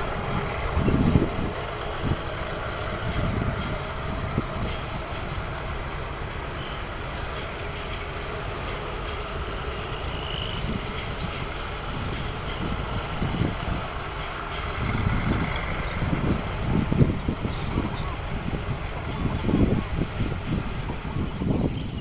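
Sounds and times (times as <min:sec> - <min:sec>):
train rumbling on tracks: 0:00.0 - 0:22.0.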